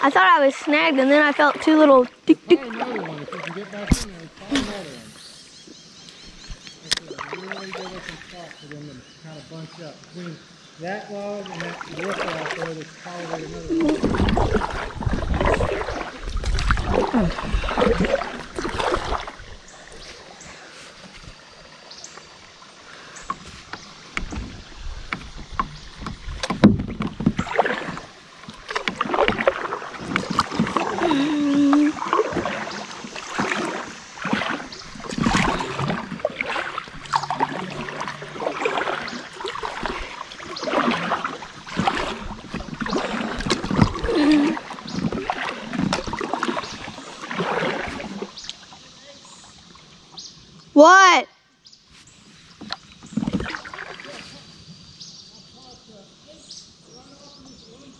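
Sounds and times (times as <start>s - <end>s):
paddle strokes splashing water: 0.0s - 51.2s, 51.8s - 57.9s.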